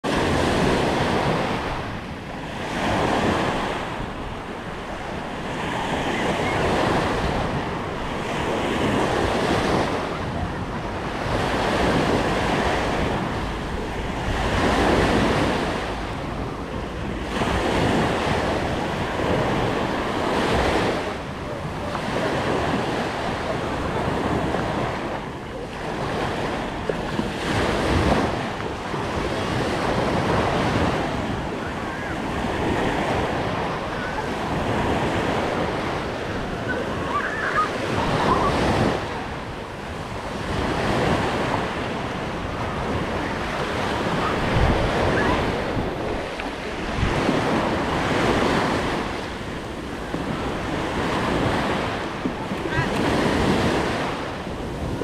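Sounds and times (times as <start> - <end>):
waves breaking on a sandy beach: 0.0 - 55.0
wind buffeting microphone: 0.0 - 55.0.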